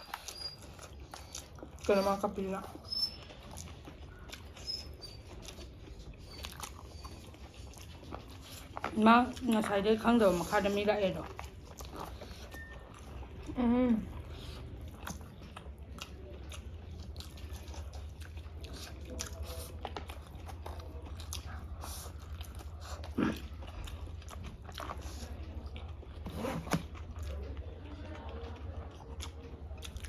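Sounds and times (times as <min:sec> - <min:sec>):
chewing and biting food: 0:00.0 - 0:30.0.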